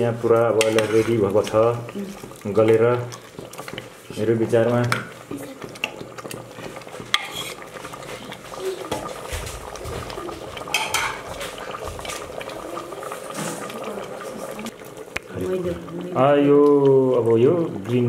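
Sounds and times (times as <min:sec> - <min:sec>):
ladle scraping pot: 0:00.0 - 0:14.7.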